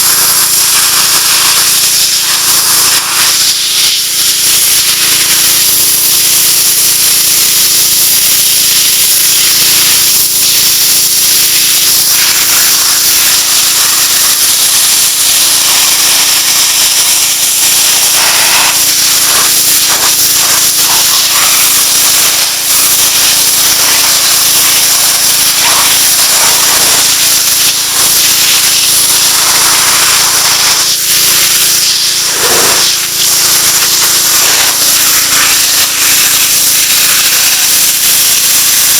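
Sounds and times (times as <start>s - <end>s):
pressure washer engine running: 0.0s - 38.9s
water jet spray hissing: 0.0s - 38.9s.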